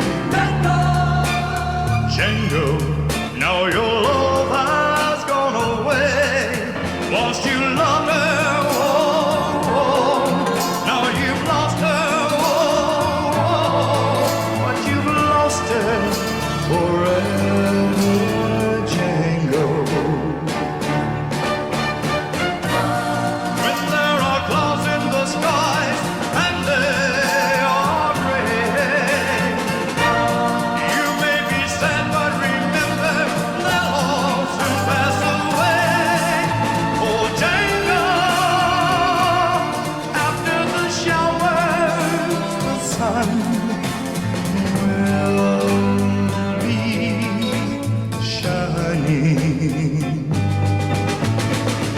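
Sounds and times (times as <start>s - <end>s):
song with vibrato vocals: 0.0s - 50.5s
sustained backing music: 0.0s - 51.9s.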